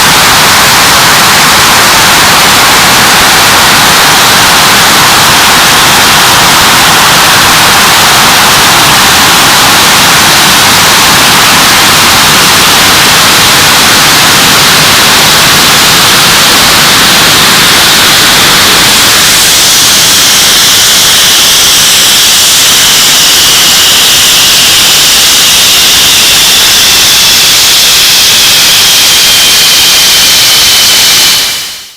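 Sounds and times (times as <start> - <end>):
jet engine roaring: 0.0 - 31.9
jet engine whine falling: 0.0 - 31.9.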